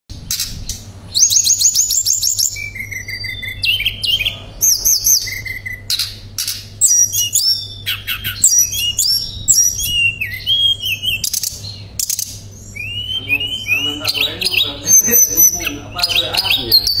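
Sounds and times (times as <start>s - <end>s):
bird singing trills and whistles: 0.1s - 17.0s
faint low hum: 0.1s - 17.0s.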